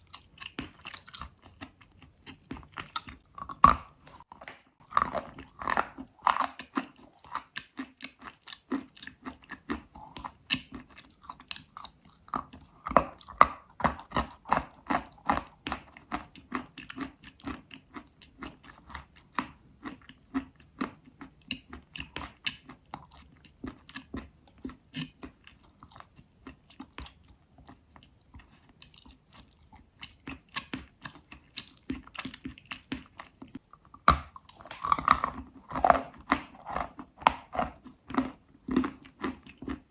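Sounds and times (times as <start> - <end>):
chalk being chewed: 0.0 - 39.9.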